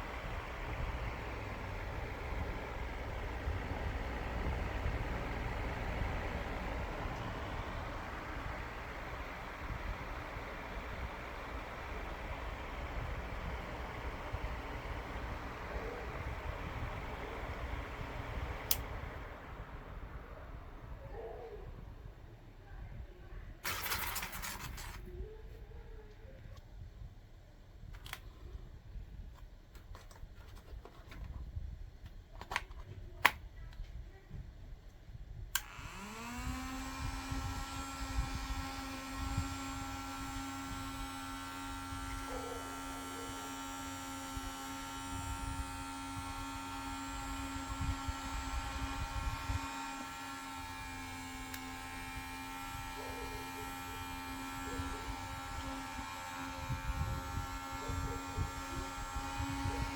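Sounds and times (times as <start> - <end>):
small fan motor whining hum: 0.0 - 59.9.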